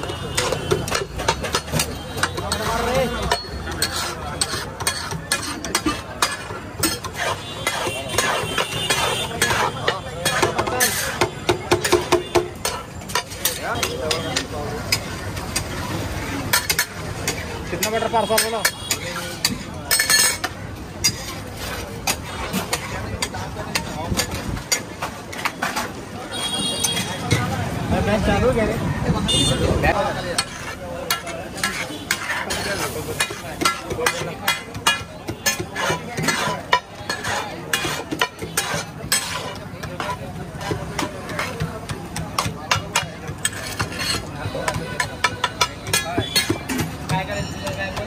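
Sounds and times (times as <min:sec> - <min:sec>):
metal spatulas clinking on griddle: 0:00.0 - 0:27.5, 0:30.0 - 0:48.0.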